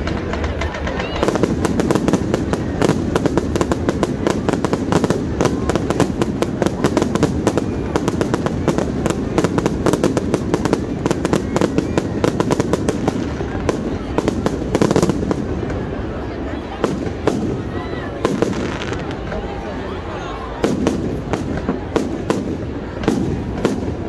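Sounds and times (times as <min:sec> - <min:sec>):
fireworks bursting with bangs and crackles: 0:00.0 - 0:24.0.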